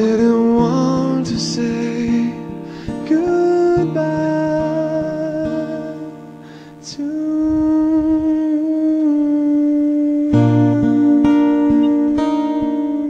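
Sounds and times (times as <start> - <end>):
slow acoustic guitar song: 0.0 - 13.0.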